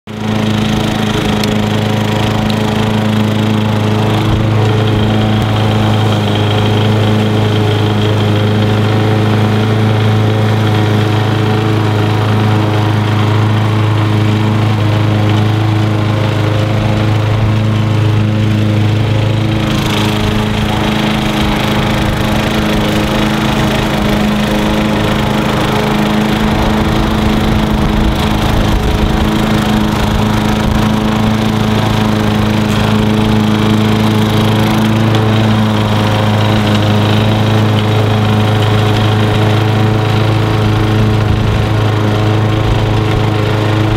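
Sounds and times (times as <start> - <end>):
lawn mower engine running: 0.1 - 43.9.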